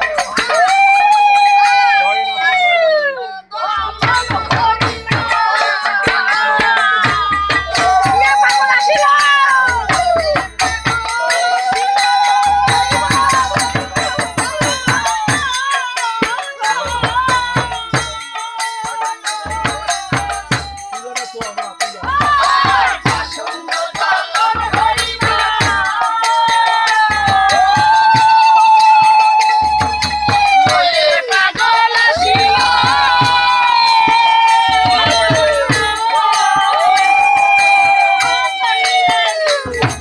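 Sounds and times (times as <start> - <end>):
jingling hand percussion: 0.0 - 40.0
person singing: 0.0 - 40.0
deep drum beat: 3.8 - 18.3, 19.3 - 38.0.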